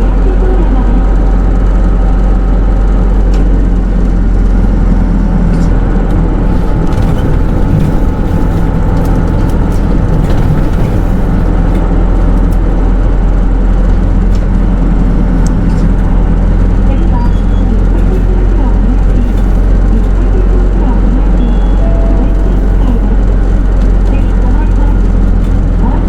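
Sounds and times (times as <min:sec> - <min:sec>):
diesel engine drone: 0:00.0 - 0:26.0
low hum: 0:00.0 - 0:26.0.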